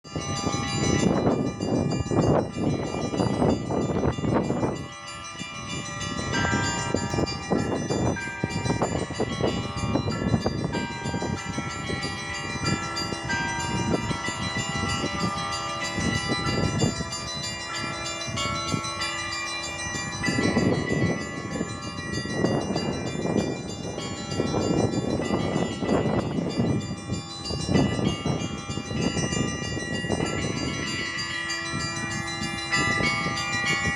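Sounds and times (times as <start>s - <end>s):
church bells ringing a peal: 0.0s - 33.9s.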